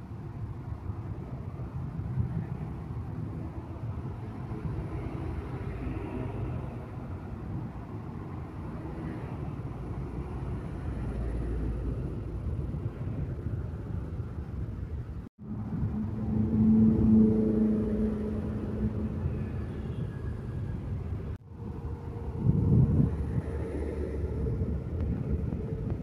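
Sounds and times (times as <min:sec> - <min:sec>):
trucks and motorcycles driving past: 0:00.0 - 0:26.0.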